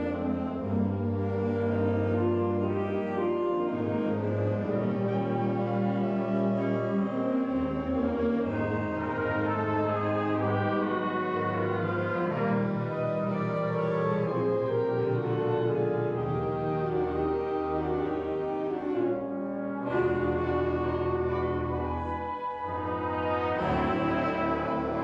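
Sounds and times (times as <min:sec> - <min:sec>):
wind ensemble playing sustained chords: 0:00.0 - 0:25.0.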